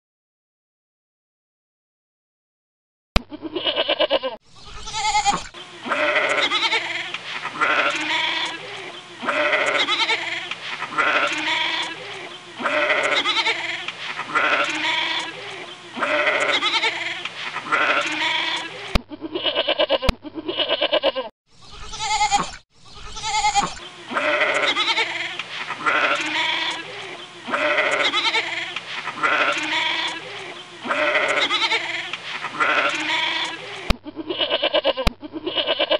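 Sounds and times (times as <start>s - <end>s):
goat bleating: 3.3s - 35.9s.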